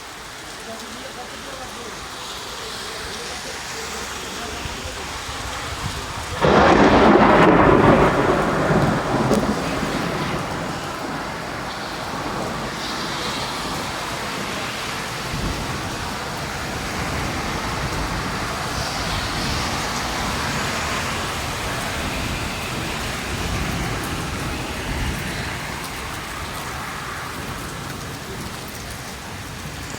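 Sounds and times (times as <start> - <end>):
heavy rain on hard surfaces: 0.0 - 29.9
thunderclap rumbling: 5.6 - 29.9.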